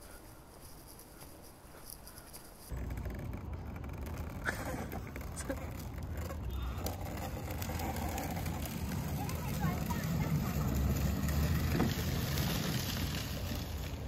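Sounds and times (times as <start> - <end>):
plastic wheels rumbling on pavement: 2.6 - 14.0.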